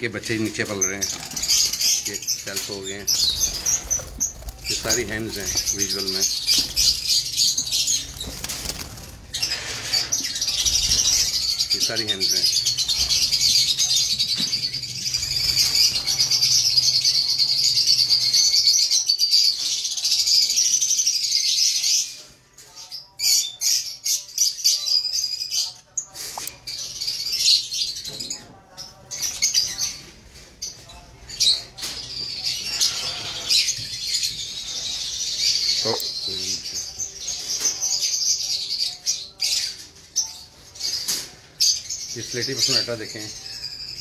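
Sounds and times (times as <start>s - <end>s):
birds twittering and chirping: 0.0s - 44.0s.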